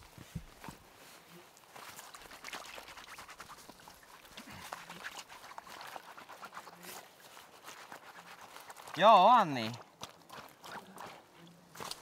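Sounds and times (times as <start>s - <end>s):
small water splashes: 1.6s - 12.0s.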